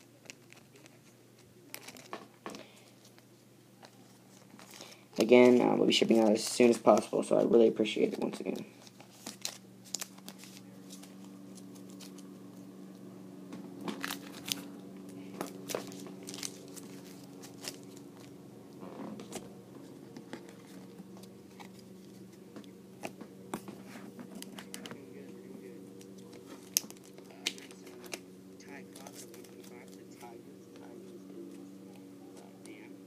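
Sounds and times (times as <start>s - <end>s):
cards and plastic packaging crinkling: 0.0s - 12.6s, 13.8s - 18.4s, 19.2s - 31.0s
steady low hum: 0.0s - 33.0s.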